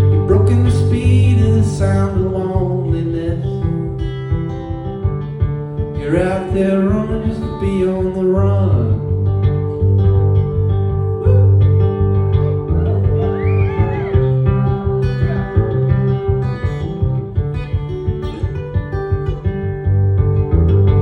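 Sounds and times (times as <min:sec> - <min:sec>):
steady bass: 0:00.0 - 0:21.0
strummed guitars: 0:00.0 - 0:21.0.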